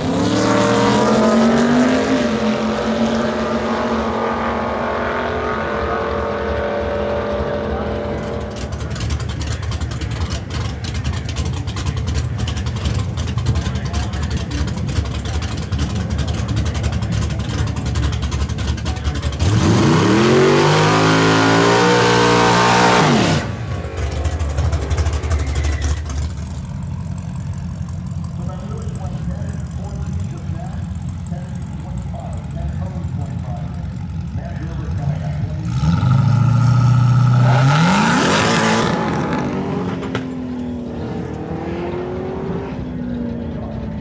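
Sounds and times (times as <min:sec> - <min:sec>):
racing car engine revving: 0:00.0 - 0:44.0.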